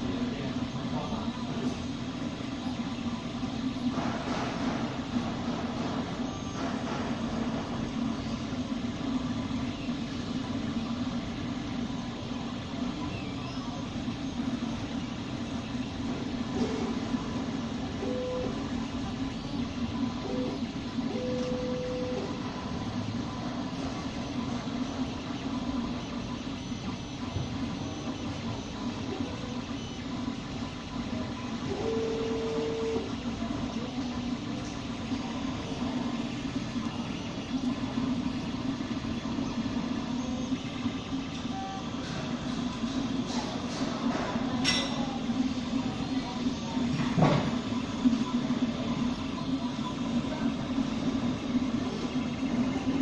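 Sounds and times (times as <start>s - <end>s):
three d printer humming: 0.0s - 53.0s.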